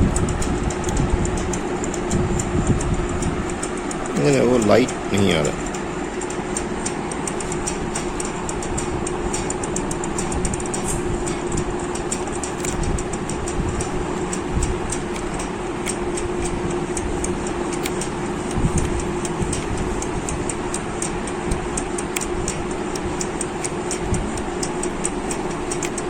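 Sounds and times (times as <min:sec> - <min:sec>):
machine humming: 0:00.0 - 0:26.0
rapid even ticking: 0:00.0 - 0:26.0.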